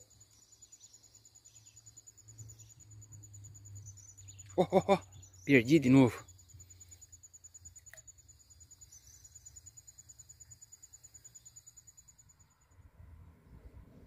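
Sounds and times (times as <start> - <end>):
insect trilling: 0.0 - 12.6.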